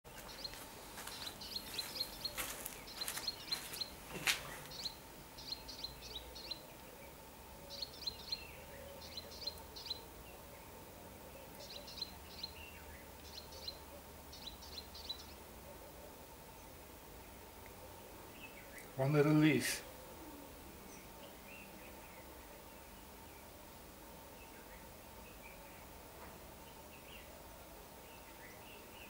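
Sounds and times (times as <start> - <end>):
faint steady hum: 0.1 - 29.0
small birds chirping: 0.1 - 29.0.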